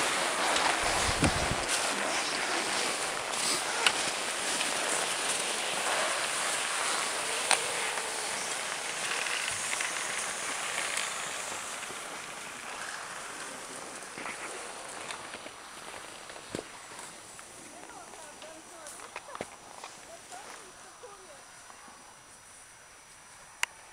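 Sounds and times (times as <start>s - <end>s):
bicycle tyres crunching snow: 0.0s - 23.9s
wind: 0.0s - 23.9s.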